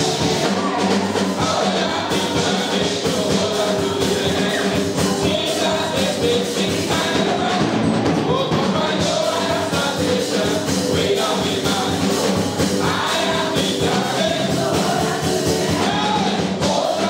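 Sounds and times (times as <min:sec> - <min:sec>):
band accompaniment: 0:00.0 - 0:17.0
drums steady beat: 0:00.0 - 0:17.0
men's vocal group singing: 0:00.0 - 0:17.0.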